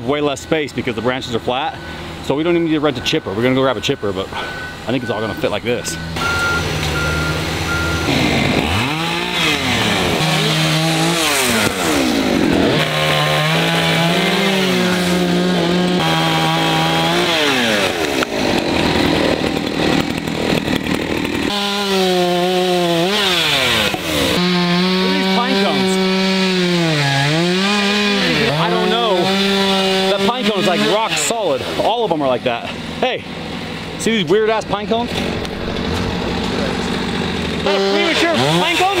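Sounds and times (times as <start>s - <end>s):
chainsaw cutting wood: 6.2s - 34.0s, 34.7s - 39.0s.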